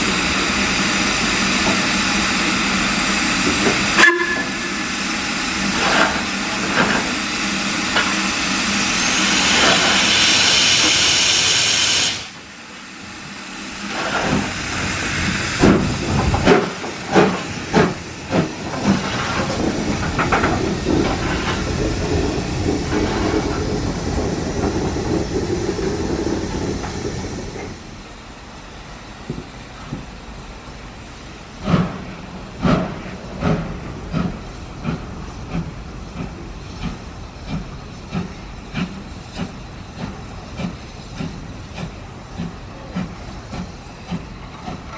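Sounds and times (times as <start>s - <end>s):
loud steam hiss: 0.0s - 44.9s
steady steam hiss: 0.0s - 44.9s
steam locomotive exhaust beats: 0.0s - 44.9s.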